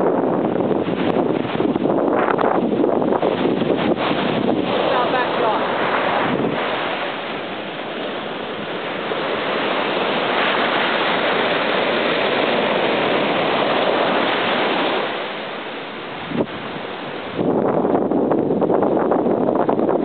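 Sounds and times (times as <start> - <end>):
ocean surf washing up beach: 0.0 - 20.0.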